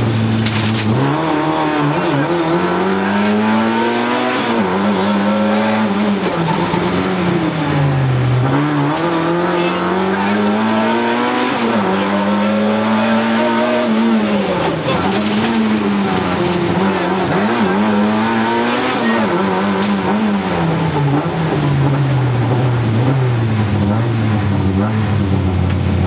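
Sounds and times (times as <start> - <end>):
rally car engine running hard: 0.0 - 26.0.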